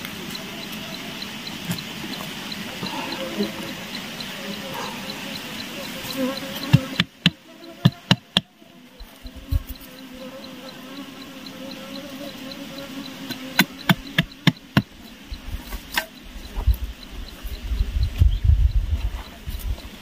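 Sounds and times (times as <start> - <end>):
insect buzzing: 0.0 - 20.0.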